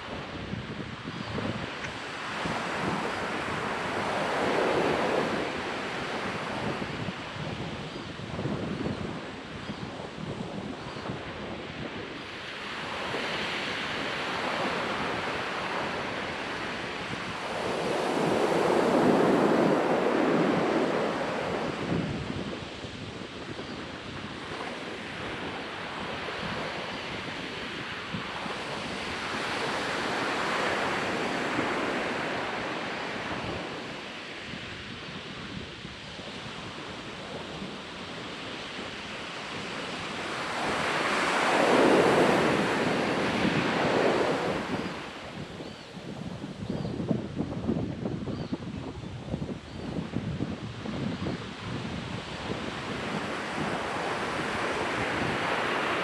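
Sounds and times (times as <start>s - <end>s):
ocean surf breaking on beach: 0.0s - 56.0s
wind on microphone: 0.0s - 56.0s.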